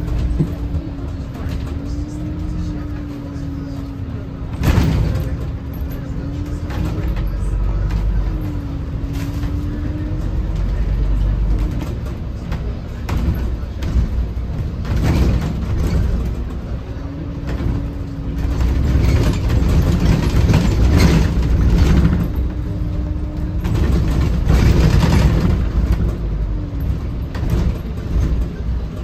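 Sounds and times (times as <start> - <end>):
bus diesel engine running: 0.0 - 29.0
rattles: 0.0 - 29.0.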